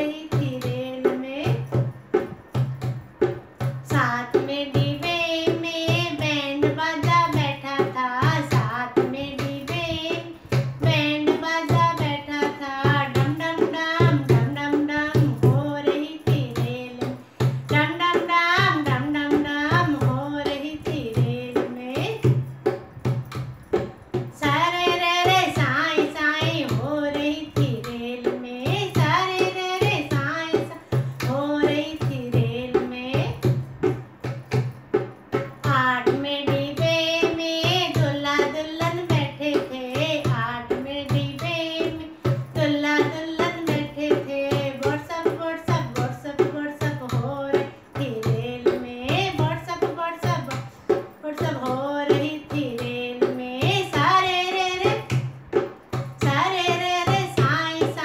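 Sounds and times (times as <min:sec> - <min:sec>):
woman singing folk song: 0:00.0 - 0:01.8, 0:03.8 - 0:22.5, 0:24.1 - 0:33.7, 0:35.6 - 0:55.3, 0:56.0 - 0:58.0
hand drum beat: 0:00.0 - 0:58.0.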